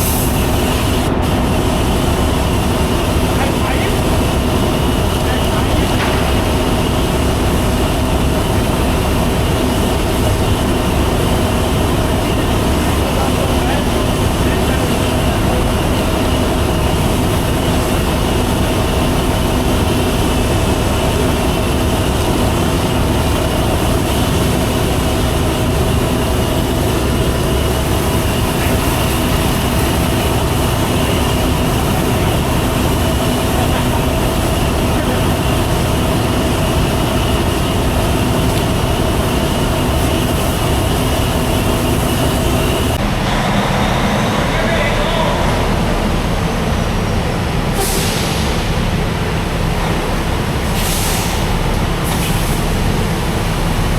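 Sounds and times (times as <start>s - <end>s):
diesel truck engine drone: 0.0s - 53.9s.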